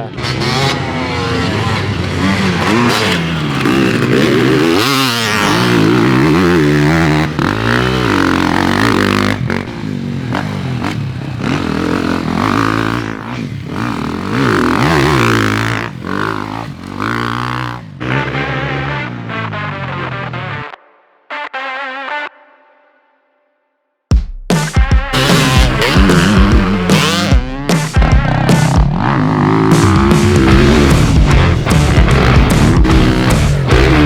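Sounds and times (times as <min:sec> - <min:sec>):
dirt bike engine revving: 0:00.0 - 0:20.7, 0:25.1 - 0:34.0.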